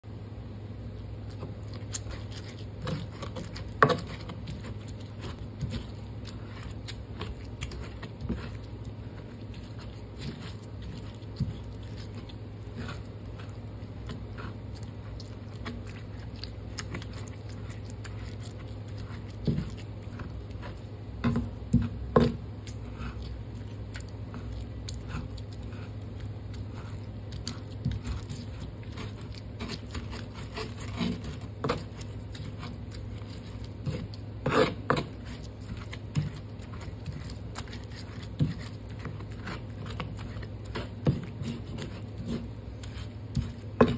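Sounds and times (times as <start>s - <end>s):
pestle grinding wet chillies: 1.3s - 43.9s.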